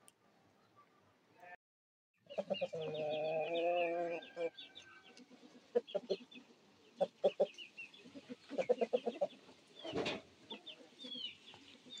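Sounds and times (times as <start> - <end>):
chickens clucking: 2.2 - 12.0
small birds chirping: 2.2 - 12.0.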